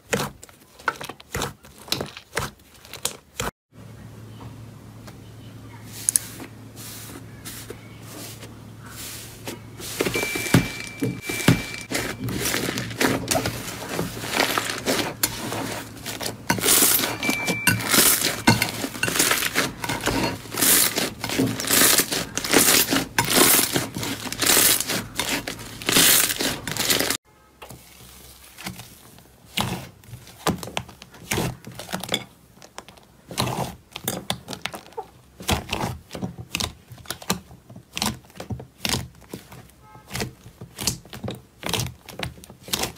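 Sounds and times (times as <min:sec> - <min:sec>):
slime squishing: 0:00.0 - 0:03.5, 0:06.0 - 0:27.2, 0:28.1 - 0:42.9.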